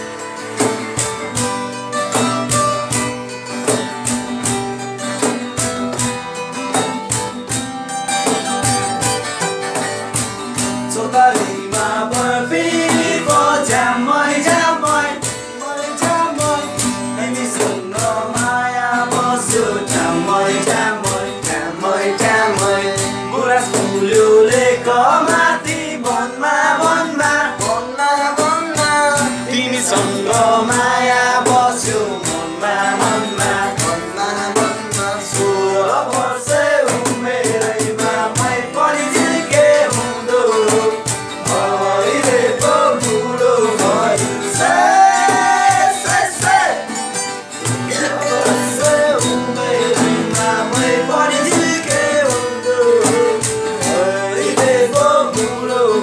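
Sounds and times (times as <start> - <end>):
strummed acoustic guitar: 0.0 - 56.0
man singing: 10.6 - 47.0, 47.6 - 56.0.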